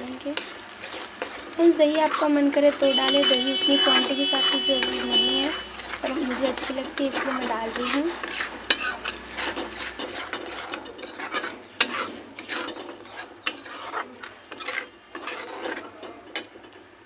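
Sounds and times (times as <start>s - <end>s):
spatula scraping in a pan: 0.0s - 17.0s.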